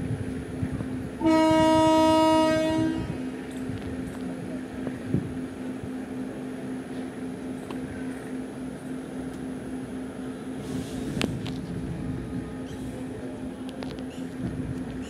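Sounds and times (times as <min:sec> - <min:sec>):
electric train hum and rumble: 0:00.0 - 0:15.0.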